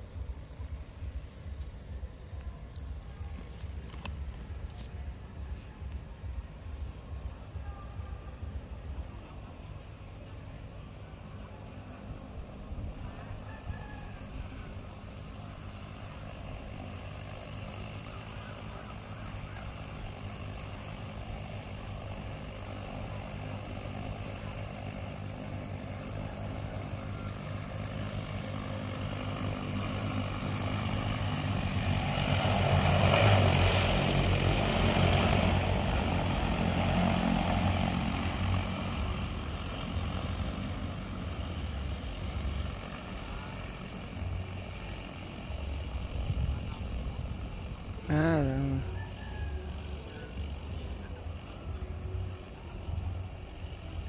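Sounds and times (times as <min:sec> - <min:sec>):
drone rotors buzzing: 0:00.0 - 0:54.0.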